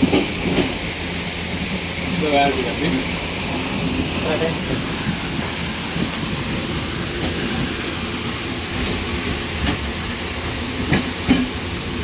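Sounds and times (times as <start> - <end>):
train engine rumble: 0.0 - 12.0.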